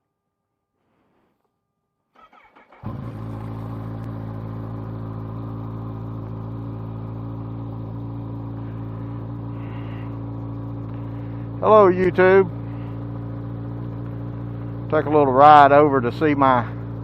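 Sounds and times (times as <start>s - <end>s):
motorcycle engine starting and idling: 2.2s - 17.0s.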